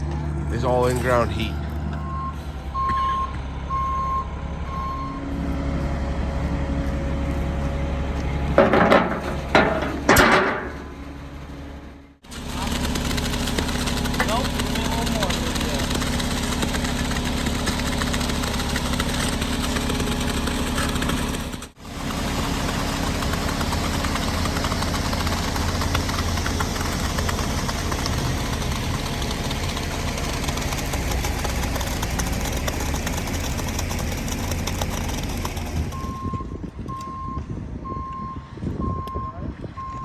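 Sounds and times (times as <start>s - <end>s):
construction machine engine running: 0.0s - 40.0s.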